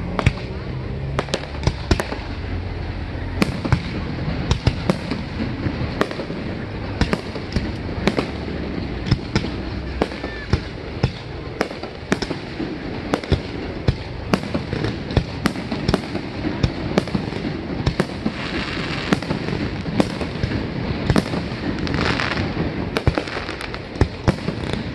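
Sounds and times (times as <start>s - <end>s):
background rumble: 0.0s - 24.9s
fireworks bursting: 0.0s - 24.9s.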